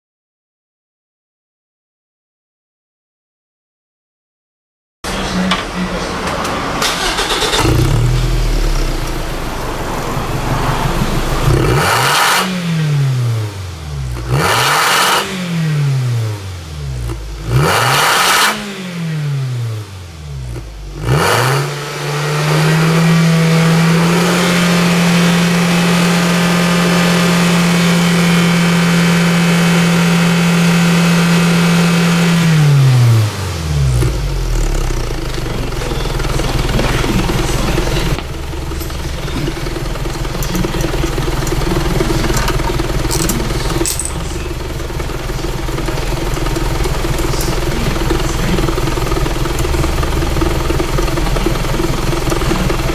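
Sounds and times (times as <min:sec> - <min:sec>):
car engine idling and revving: 0:05.1 - 0:52.9.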